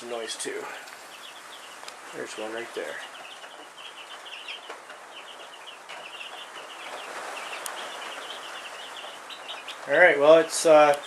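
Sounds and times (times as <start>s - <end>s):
chicks peeping: 0.0s - 11.0s
rain hiss: 0.0s - 11.0s.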